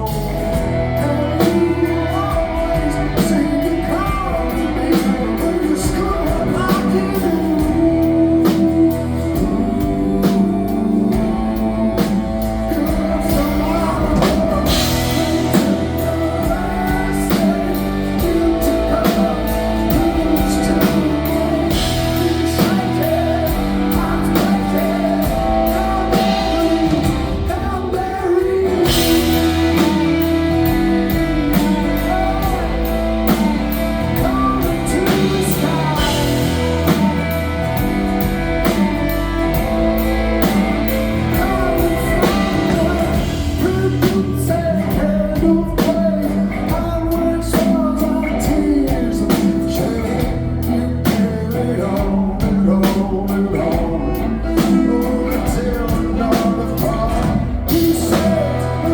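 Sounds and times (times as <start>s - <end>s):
drum kit beat: 0.0s - 58.9s
electric guitar: 0.0s - 58.9s
live rock band playing: 0.0s - 58.9s
person singing: 0.0s - 58.9s.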